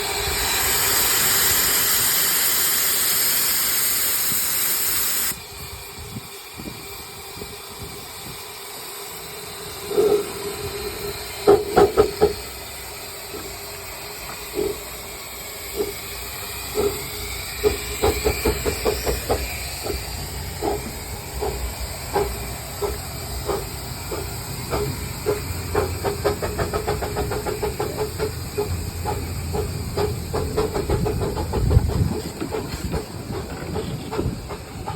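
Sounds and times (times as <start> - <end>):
steam hissing: 0.0 - 34.9
steam locomotive exhaust chuffs: 0.0 - 34.9.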